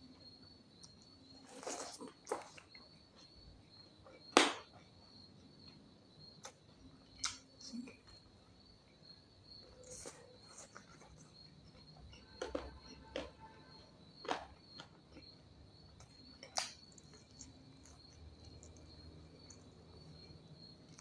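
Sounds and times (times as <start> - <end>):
cricket trill: 0.0 - 21.0.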